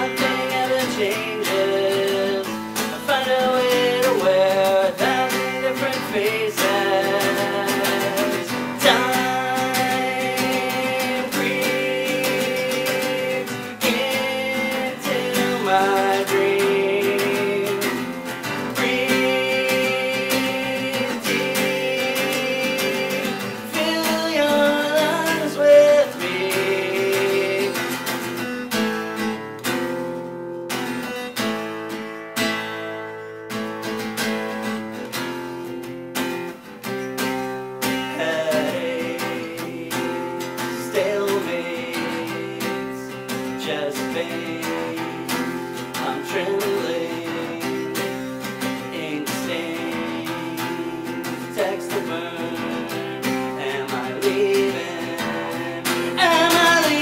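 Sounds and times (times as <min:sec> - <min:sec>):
man singing: 0:00.0 - 0:28.9, 0:37.2 - 0:57.0
strummed acoustic guitar: 0:00.0 - 0:57.0.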